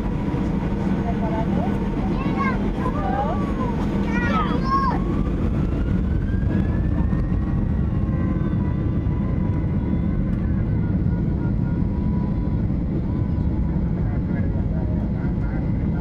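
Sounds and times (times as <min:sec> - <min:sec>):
jet engine rumble and whine: 0:00.0 - 0:16.0.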